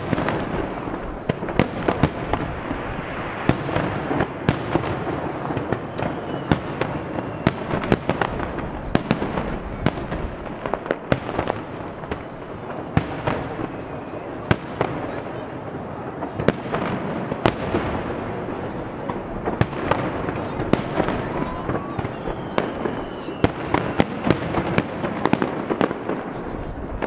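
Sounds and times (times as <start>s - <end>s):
fireworks bangs: 0.0s - 27.0s
fireworks crackle and rumble: 0.0s - 27.0s.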